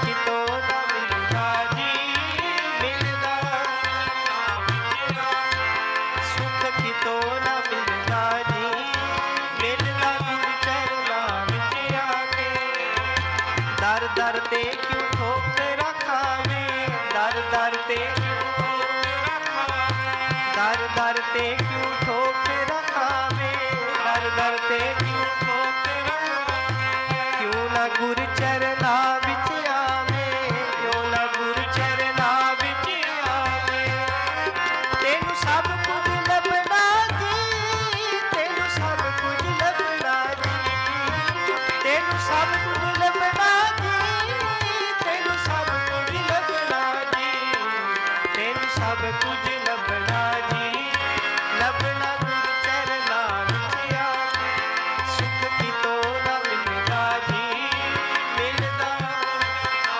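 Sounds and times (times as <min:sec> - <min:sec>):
harmonium melody: 0:00.0 - 0:59.9
tabla rhythm: 0:00.0 - 0:59.9.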